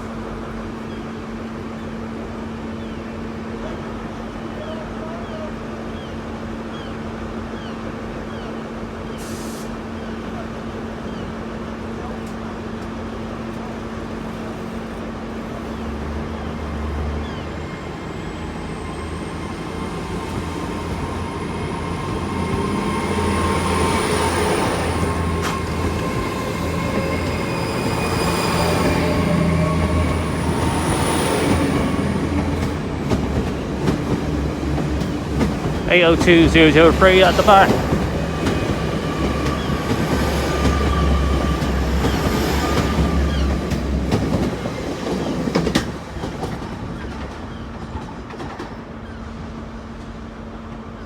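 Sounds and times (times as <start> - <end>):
diesel train engines humming: 0.0 - 47.8
train running noise: 0.0 - 51.0.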